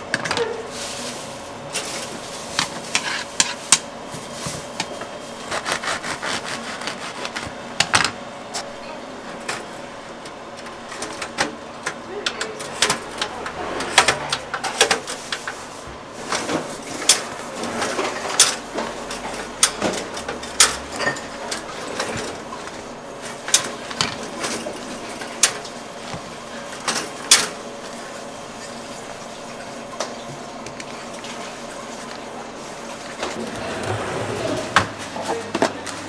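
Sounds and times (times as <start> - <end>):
faint kitchen hum: 0.0 - 36.0.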